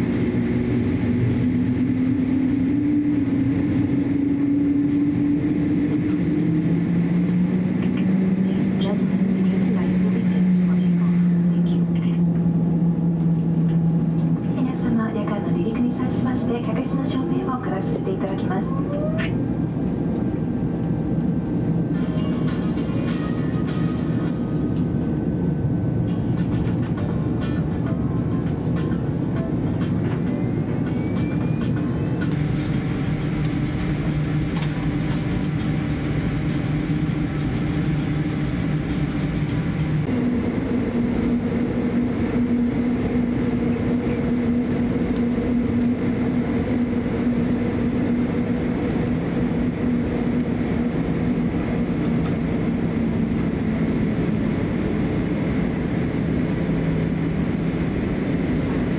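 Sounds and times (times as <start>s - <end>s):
airliner cabin rumble and hum: 0.0s - 58.9s.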